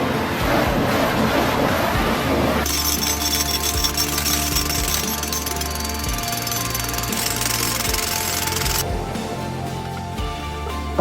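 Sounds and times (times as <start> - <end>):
background music with sustained notes: 0.0 - 11.0
low bass line: 0.0 - 11.0.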